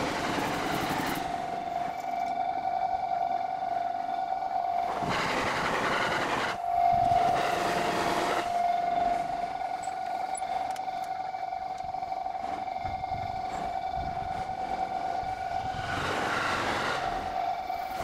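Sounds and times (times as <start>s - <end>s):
crossing warning bell ringing: 0.0s - 15.8s
electric trains rushing past: 0.0s - 18.0s.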